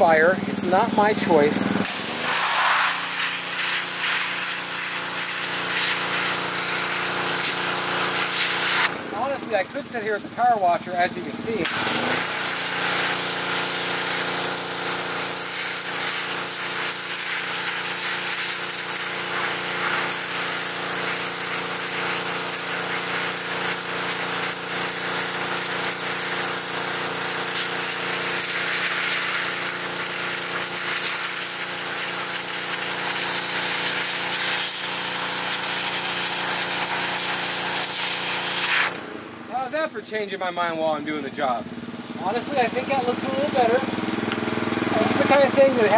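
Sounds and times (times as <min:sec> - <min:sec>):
pressure washer jet spraying: 0:00.0 - 0:41.6, 0:42.2 - 0:45.9
pressure washer motor humming: 0:00.0 - 0:45.9.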